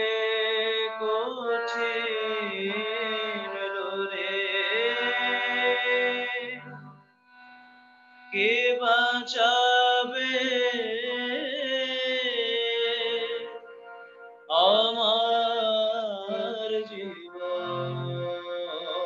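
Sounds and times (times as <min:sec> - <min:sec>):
man singing devotional song: 0:00.0 - 0:06.8, 0:08.3 - 0:13.9, 0:14.5 - 0:19.0.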